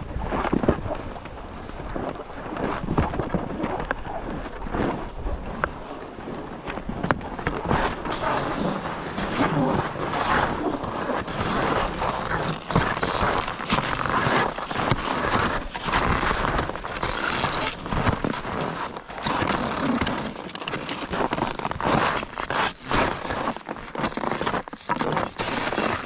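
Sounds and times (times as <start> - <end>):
skis scraping over snow: 1.8 - 26.0.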